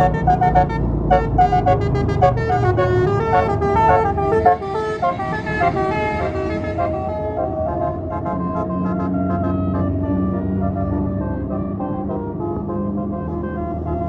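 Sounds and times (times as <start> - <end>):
bus horn melody: 0.0 - 14.0
low engine rumble: 0.0 - 14.0.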